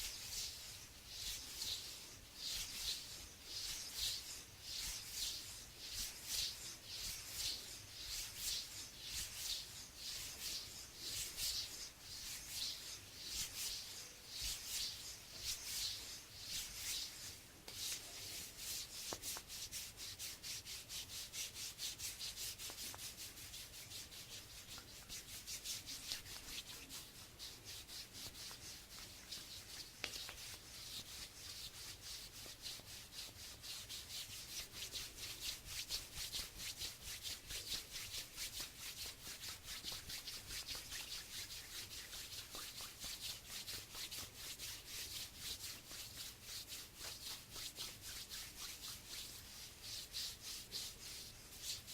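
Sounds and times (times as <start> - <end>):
hands rubbing together: 0.0 - 51.9.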